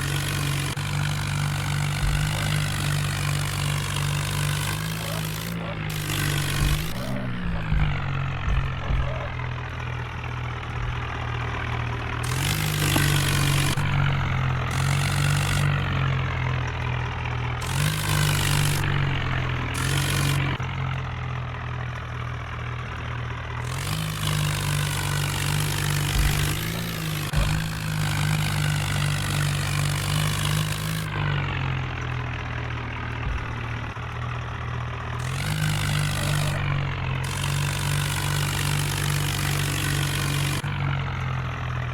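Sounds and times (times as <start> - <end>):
tractor engine revving: 0.0 - 41.9.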